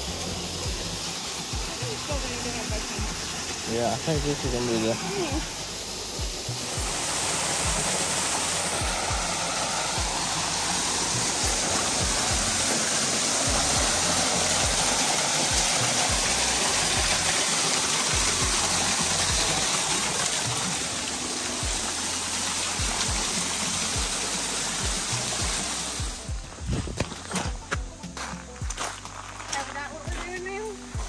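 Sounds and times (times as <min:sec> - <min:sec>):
waterfall splashing onto rocks: 0:00.0 - 0:31.0.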